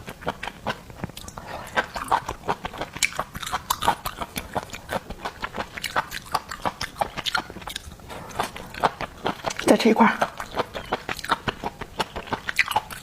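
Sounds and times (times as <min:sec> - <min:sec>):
wet chewing and biting: 0:00.0 - 0:13.0.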